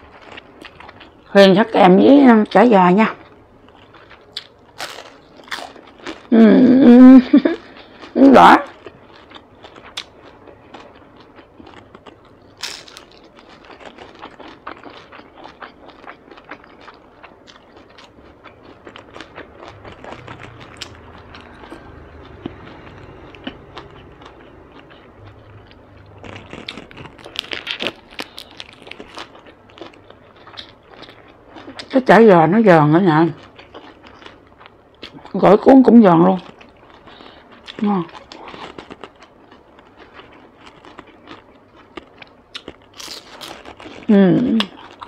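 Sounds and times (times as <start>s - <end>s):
chewing crisp spring roll: 0.0s - 45.0s.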